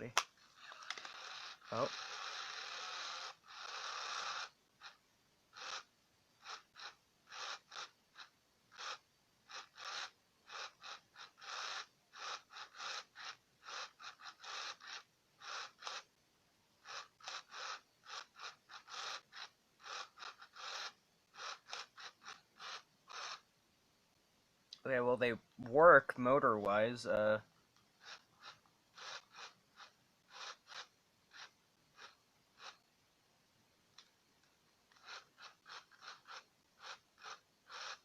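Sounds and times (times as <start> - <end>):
toy motor whirring: 0.4 - 16.2, 16.8 - 23.5, 28.0 - 32.9, 33.9 - 38.0.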